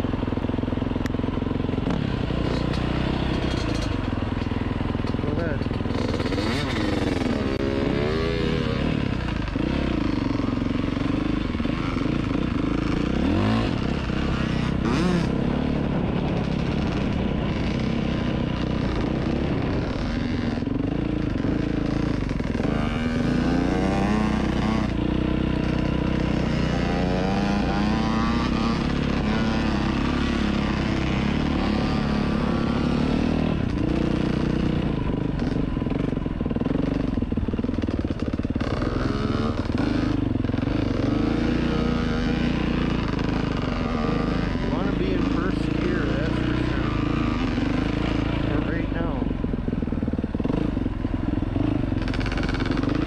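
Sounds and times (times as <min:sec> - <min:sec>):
dirt bike engine: 0:00.0 - 0:53.0.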